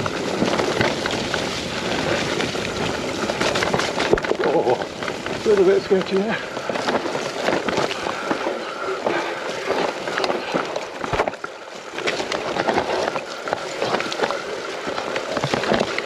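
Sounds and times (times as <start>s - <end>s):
bike knocking and rattling: 0.0s - 16.0s
bike tyres on loose ground: 0.0s - 16.0s.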